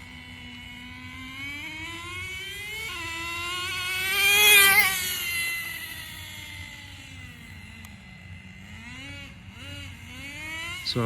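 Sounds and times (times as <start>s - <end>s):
model car nitro engine revving: 0.0s - 11.0s.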